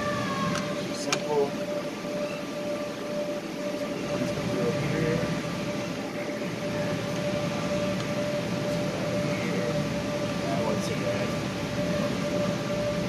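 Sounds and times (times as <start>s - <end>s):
constant hum-like tone: 0.0s - 13.0s
game machine noise: 0.0s - 13.0s.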